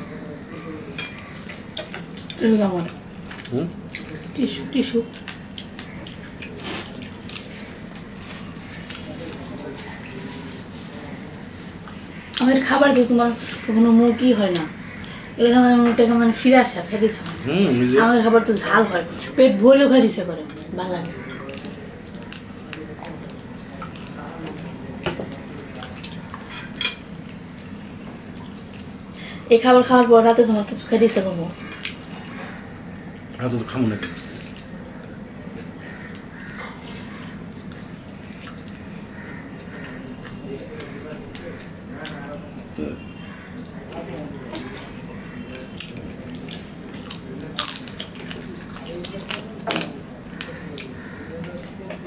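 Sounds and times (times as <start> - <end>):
hand-eating from plates: 0.0 - 52.0
people chewing food: 0.0 - 52.0.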